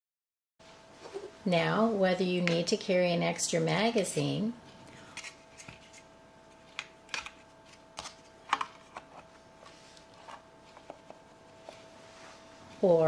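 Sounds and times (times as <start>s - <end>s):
faint steady hum: 0.6s - 13.0s.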